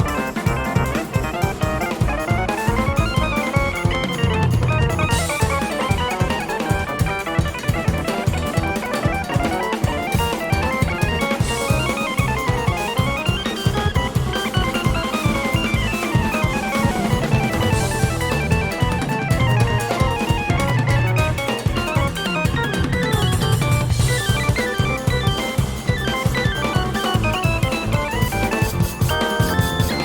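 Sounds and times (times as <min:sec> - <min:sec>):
busy drum kit: 0:00.0 - 0:30.0
jazz-fusion band playing: 0:00.0 - 0:30.0.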